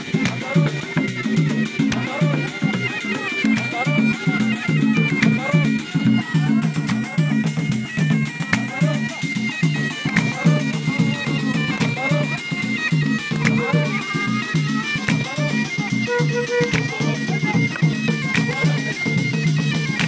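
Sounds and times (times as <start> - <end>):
hand drums beating: 0.0 - 20.0
reed wind instrument melody: 0.0 - 20.0.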